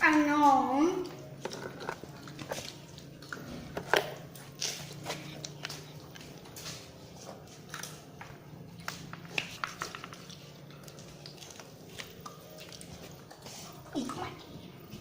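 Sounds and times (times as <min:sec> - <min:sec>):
mouths chewing: 0:00.0 - 0:15.0.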